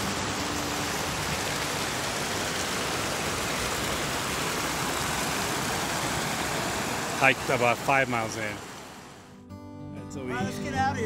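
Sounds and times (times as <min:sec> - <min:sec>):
water rushing over rocks: 0:00.0 - 0:09.3.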